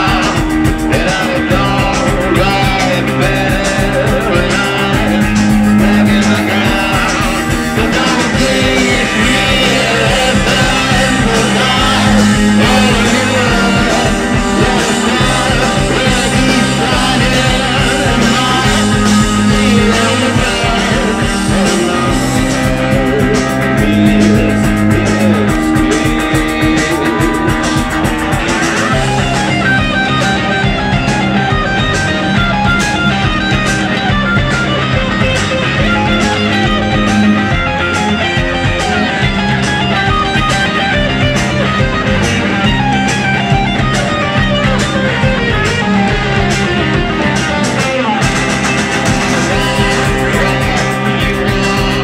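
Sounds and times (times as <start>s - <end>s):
drum beat: 0.0s - 52.0s
electric guitars: 0.0s - 52.0s.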